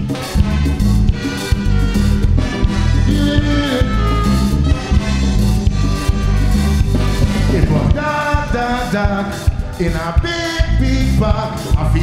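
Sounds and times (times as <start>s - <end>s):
bass: 0.0s - 12.0s
calypso band playing: 0.0s - 12.0s
conga beat: 0.0s - 12.0s
horns and saxophones: 0.0s - 12.0s.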